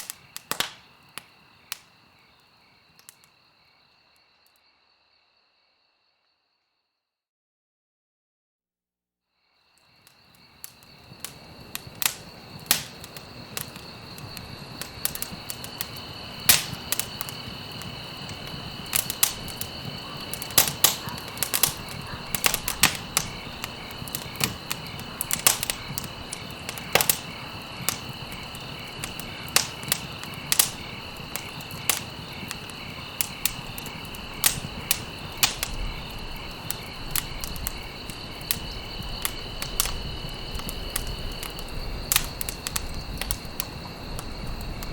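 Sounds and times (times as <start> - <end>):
campfire crackling and popping: 0.0 - 3.4, 9.8 - 44.9
crickets chirping: 0.0 - 7.1, 9.3 - 44.9.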